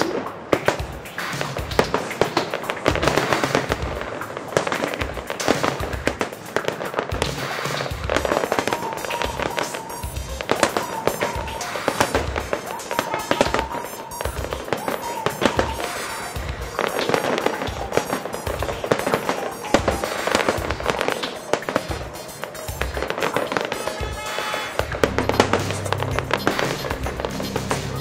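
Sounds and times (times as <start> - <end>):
fireworks bursting and crackling: 0.0 - 28.0
music playing: 0.0 - 28.0.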